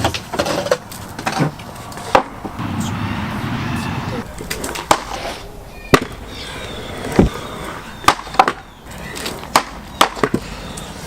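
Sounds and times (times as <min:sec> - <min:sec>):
scooter wheels rolling: 0:00.0 - 0:02.6, 0:04.3 - 0:11.0.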